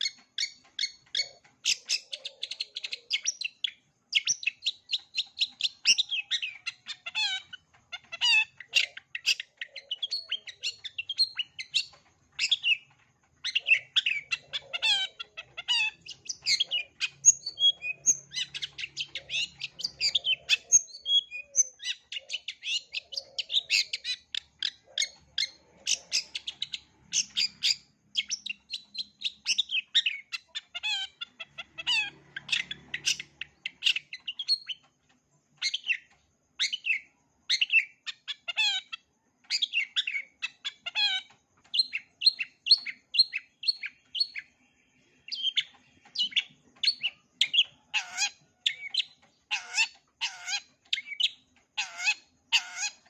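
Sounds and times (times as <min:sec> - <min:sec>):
shrike singing chattering song: 0:00.0 - 0:53.0.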